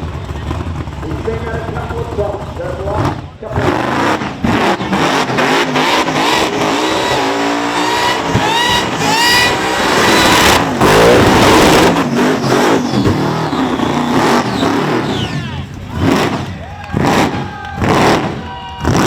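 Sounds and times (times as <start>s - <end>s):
engine revving hard: 0.0s - 19.0s
supercharger whine: 0.0s - 19.0s.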